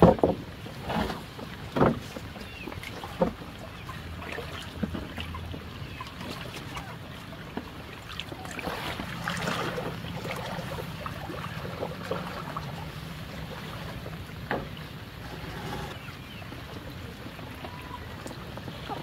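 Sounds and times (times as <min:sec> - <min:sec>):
flood water splashing: 0:00.0 - 0:19.0
small knocks and drips: 0:00.0 - 0:19.0.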